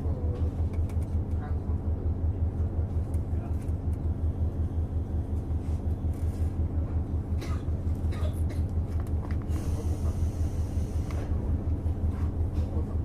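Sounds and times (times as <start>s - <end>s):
constant hum: 0.0s - 13.0s
diesel engine throbbing: 0.0s - 13.0s.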